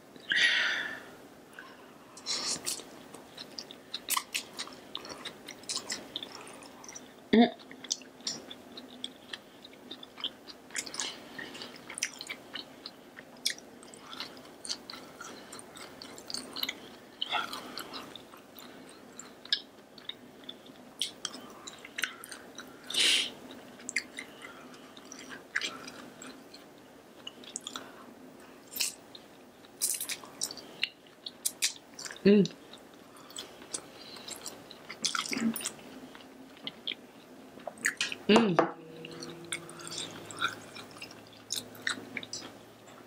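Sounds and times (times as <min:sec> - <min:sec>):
person chewing food: 0:01.5 - 0:43.0.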